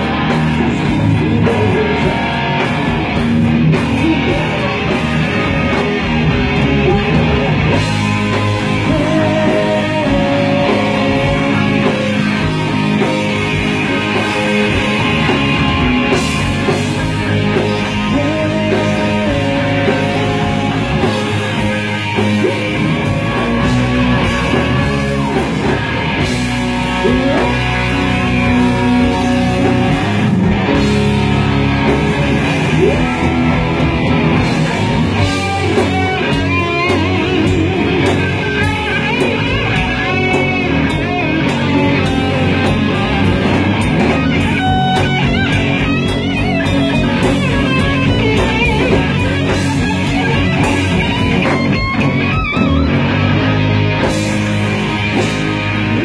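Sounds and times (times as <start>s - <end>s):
hard rock band playing: 0.0s - 56.0s.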